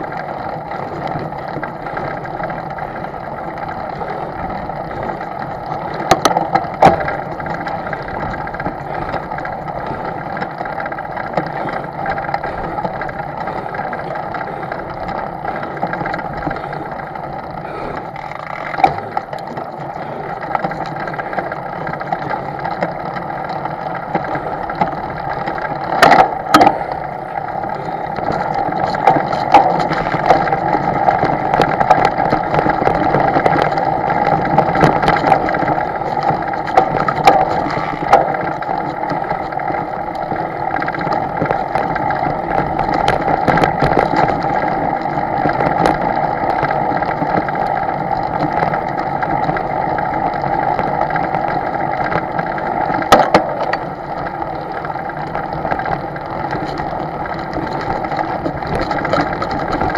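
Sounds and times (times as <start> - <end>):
boat engine under way: 0.0 - 59.9.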